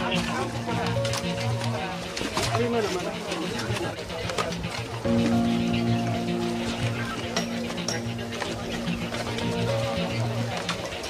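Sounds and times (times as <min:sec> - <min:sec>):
held chord background music: 0:00.0 - 0:11.0.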